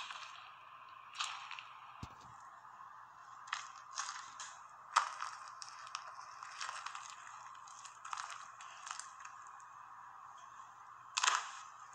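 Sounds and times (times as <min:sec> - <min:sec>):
slime crackling and squishing: 0:00.0 - 0:02.2, 0:03.2 - 0:10.1, 0:10.9 - 0:11.9.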